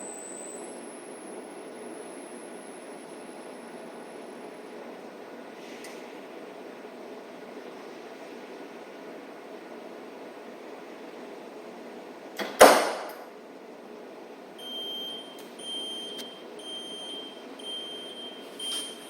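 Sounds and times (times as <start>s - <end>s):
washing machine hum: 0.0s - 19.0s.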